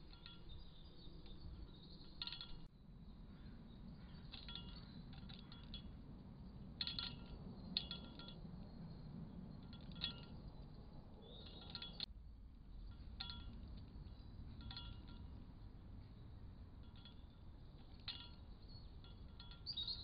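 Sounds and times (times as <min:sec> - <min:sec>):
woodpecker pecking metal feeder: 0:00.0 - 0:02.7, 0:04.0 - 0:08.4, 0:09.6 - 0:12.1, 0:12.9 - 0:20.0.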